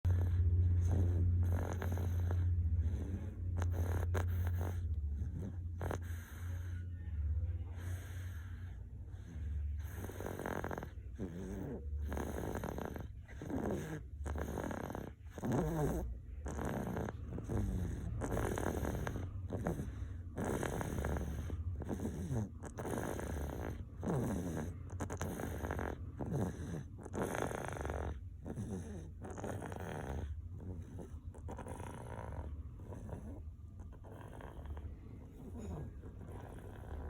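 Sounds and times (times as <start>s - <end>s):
child snoring: 0.0s - 6.9s, 7.7s - 37.0s.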